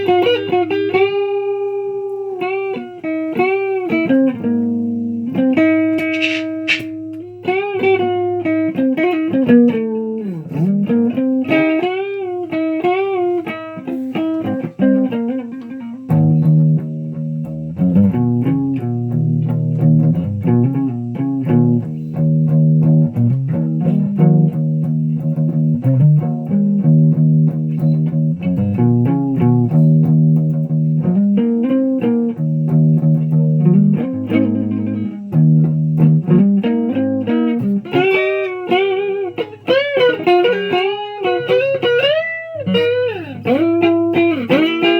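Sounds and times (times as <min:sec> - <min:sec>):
electric guitar solo: 0:00.0 - 0:44.9.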